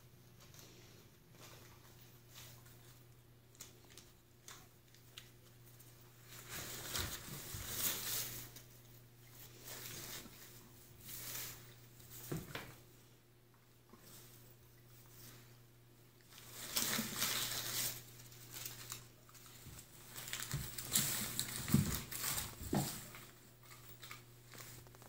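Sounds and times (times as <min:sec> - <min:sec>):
paper crinkling and rustling: 0:01.4 - 0:12.8, 0:16.2 - 0:25.0.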